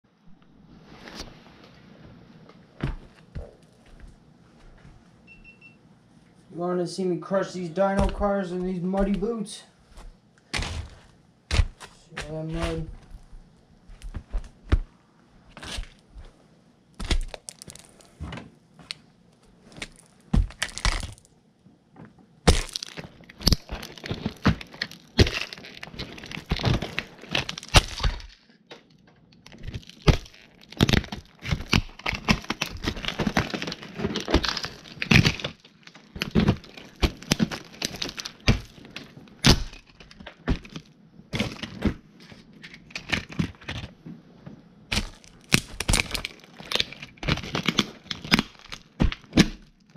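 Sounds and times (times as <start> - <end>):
boots crushing plastic toys: 2.7 - 5.0, 7.8 - 21.4, 22.0 - 44.1, 44.9 - 49.9.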